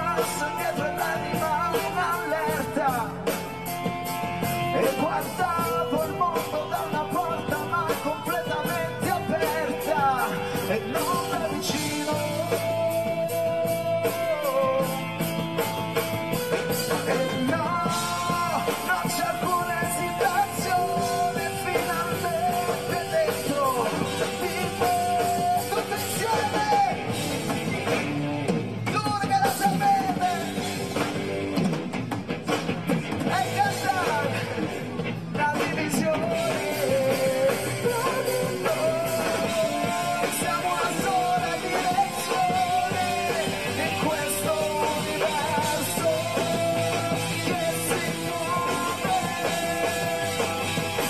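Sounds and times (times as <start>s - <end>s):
male lead vocal singing: 0.0s - 3.4s, 4.4s - 15.2s, 16.5s - 27.3s, 28.9s - 31.0s, 33.2s - 51.0s
drum kit: 0.0s - 51.0s
electric guitars: 0.0s - 51.0s
live rock band playing: 0.0s - 51.0s.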